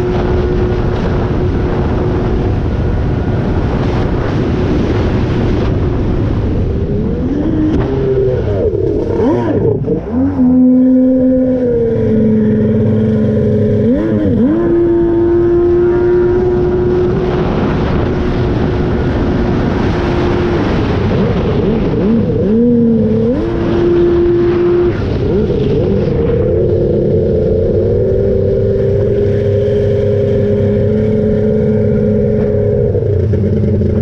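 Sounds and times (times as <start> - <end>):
water rushing along hull: 0.0 - 34.0
jet ski engine revving: 6.5 - 34.0.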